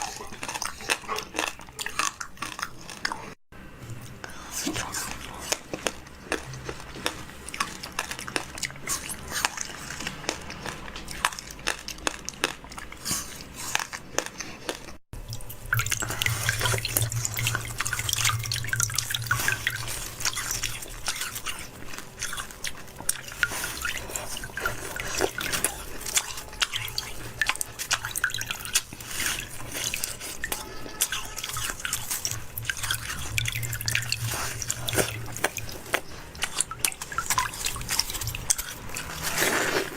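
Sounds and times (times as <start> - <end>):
wet eating sounds: 0.0 - 39.9.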